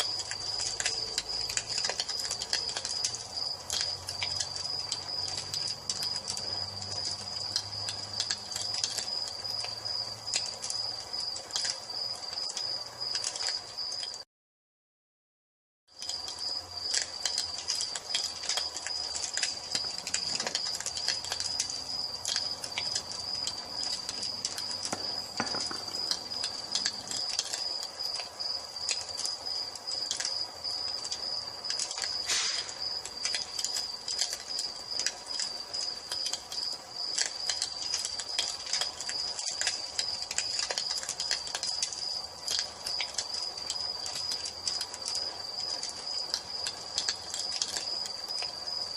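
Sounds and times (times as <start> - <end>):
crickets chirping: 0.0 - 14.2, 16.0 - 48.9
wood fire crackling: 0.0 - 14.2, 15.9 - 48.9.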